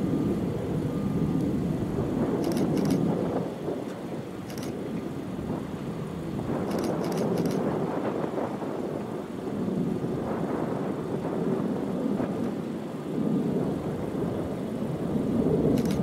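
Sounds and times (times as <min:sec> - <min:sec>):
jet airliner engines rumbling: 0:00.0 - 0:16.0.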